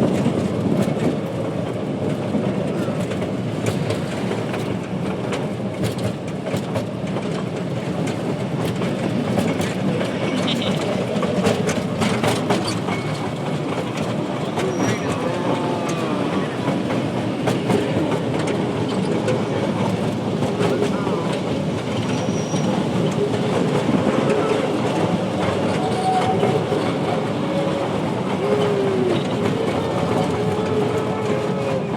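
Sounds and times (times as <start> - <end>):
train rumbling on track: 0.0 - 31.9
wheels clicking and rattling: 0.0 - 31.9.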